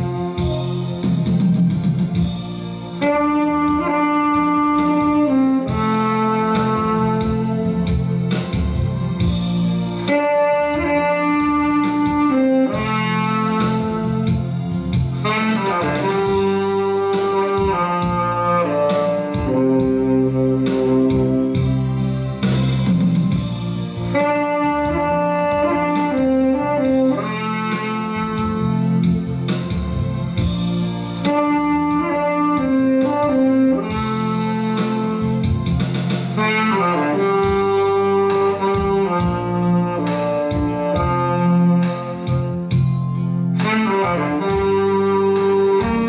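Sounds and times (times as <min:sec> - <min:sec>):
tenor saxophone ballad melody: 0:00.0 - 0:46.0.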